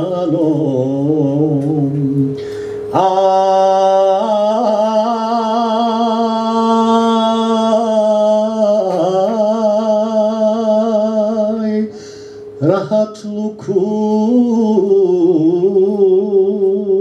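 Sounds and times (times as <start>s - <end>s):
man singing: 0.0s - 12.0s, 12.6s - 17.0s
sustained low tones: 0.0s - 17.0s.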